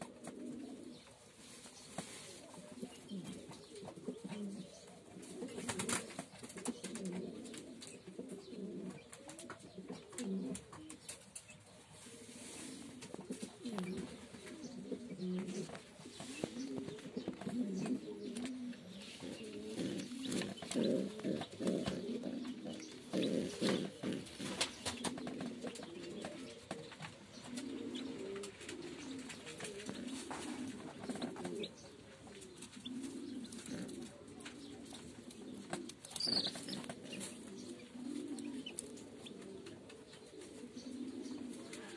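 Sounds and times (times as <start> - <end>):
pigeons cooing: 0.0 - 41.9.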